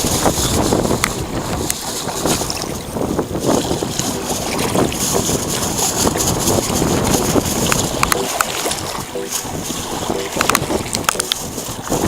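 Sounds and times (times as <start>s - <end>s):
water noise: 0.0s - 12.0s
water splashes: 0.0s - 12.0s
wind buffeting microphone: 0.0s - 12.0s.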